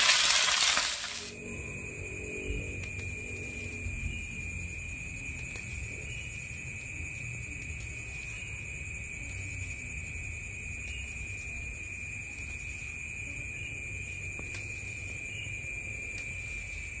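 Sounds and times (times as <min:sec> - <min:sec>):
night insects ringing: 0:00.0 - 0:17.0.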